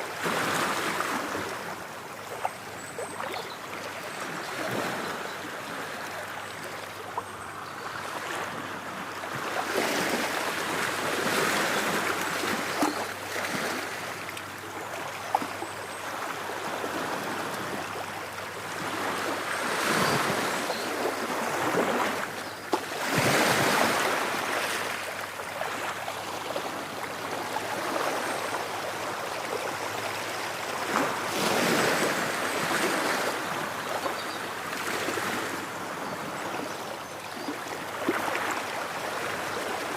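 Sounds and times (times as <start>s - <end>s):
ocean waves breaking on shore: 0.0s - 7.1s, 7.9s - 39.9s.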